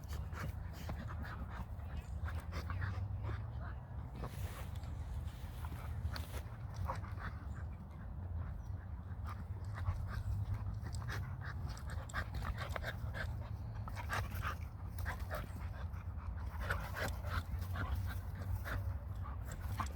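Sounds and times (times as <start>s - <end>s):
dog panting: 0.0s - 19.9s.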